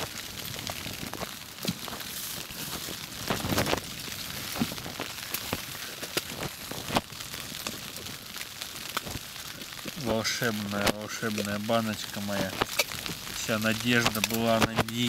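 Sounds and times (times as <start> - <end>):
rain pattering on tent fabric: 0.0 - 15.0.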